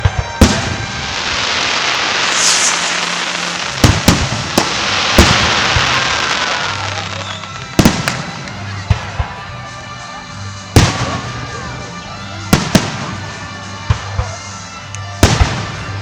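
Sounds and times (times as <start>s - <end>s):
fireworks crackling hiss: 0.0s - 16.0s
fireworks sharp bangs: 0.0s - 16.0s.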